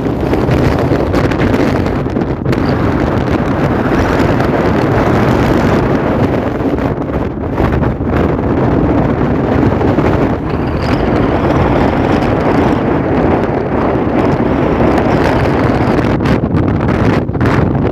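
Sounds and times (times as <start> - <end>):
low rumble of boat engines: 0.0 - 16.2
wind buffeting microphone: 0.0 - 17.9.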